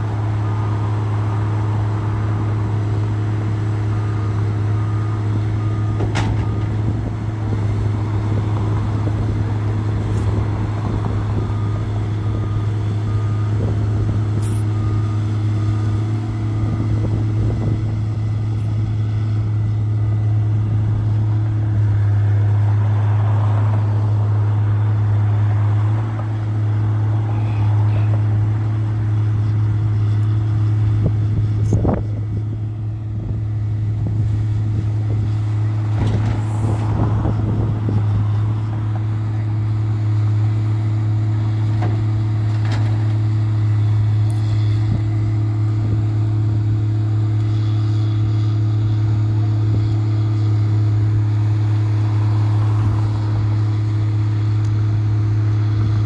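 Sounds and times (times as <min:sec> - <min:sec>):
low mechanical drone: 0:00.0 - 0:56.0.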